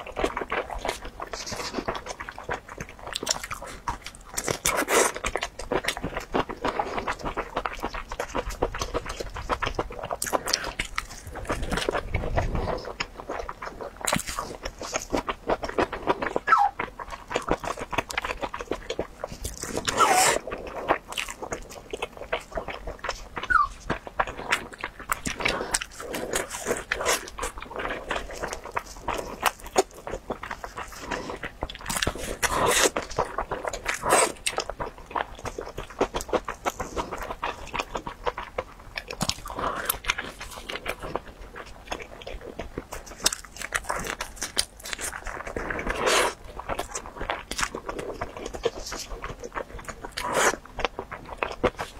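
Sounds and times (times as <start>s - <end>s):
crunching and chewing crispy food: 0.0s - 51.9s.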